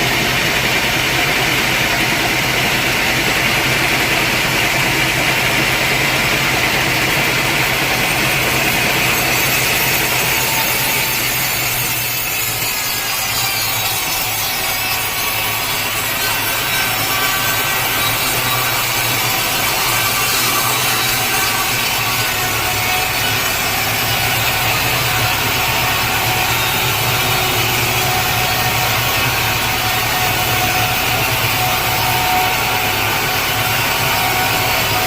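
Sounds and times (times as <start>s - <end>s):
sawmill saw cutting log: 0.0s - 35.0s.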